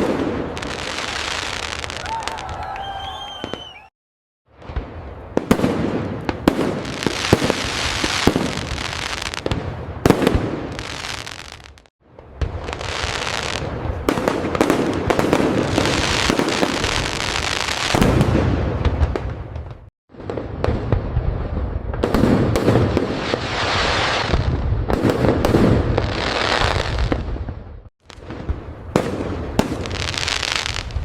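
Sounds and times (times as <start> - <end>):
fireworks bangs: 0.0 - 3.9, 4.5 - 31.0
fireworks crackling and popping: 0.0 - 3.9, 4.5 - 31.0.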